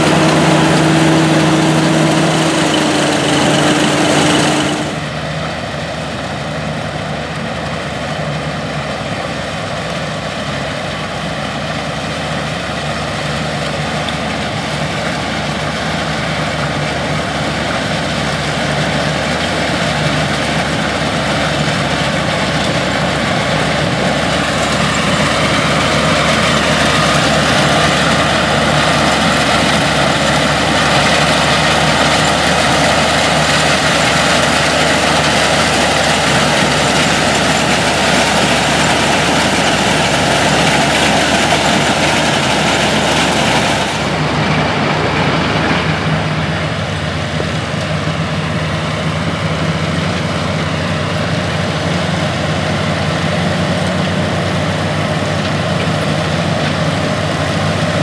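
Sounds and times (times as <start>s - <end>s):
broad rushing noise: 0.0s - 6.0s, 11.6s - 58.0s
tractor engine running under load: 0.0s - 58.0s.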